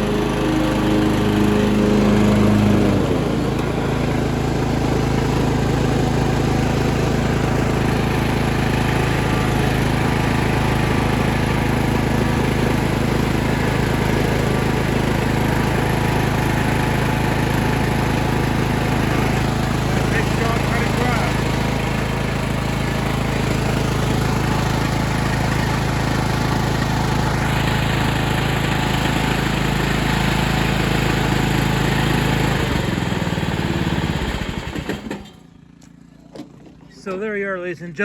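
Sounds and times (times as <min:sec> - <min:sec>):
riding lawn mower engine running: 0:00.0 - 0:37.6.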